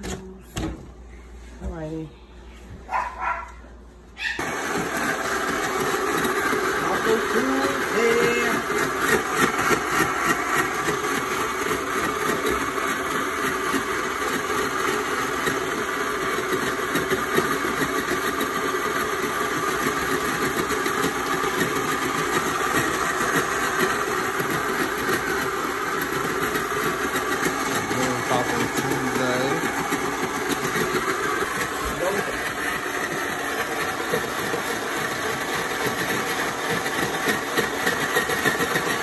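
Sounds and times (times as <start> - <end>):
blender crushing ice: 4.4 - 39.0.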